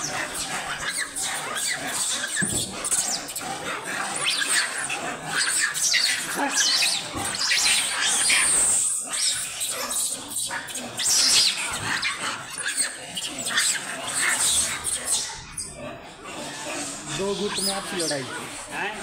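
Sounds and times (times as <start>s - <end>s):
monkeys calling: 0.0s - 19.0s.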